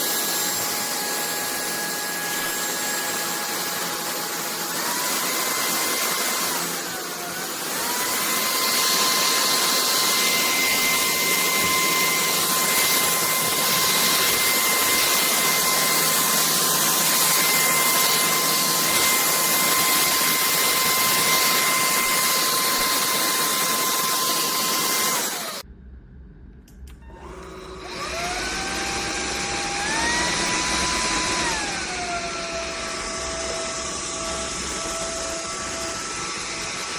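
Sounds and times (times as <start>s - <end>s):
stick vacuum whining: 0.0s - 25.7s, 26.9s - 36.9s.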